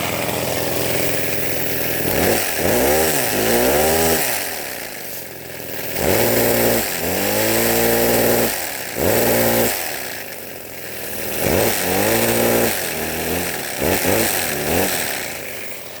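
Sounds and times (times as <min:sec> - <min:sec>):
small engine buzzing: 0:00.0 - 0:16.0.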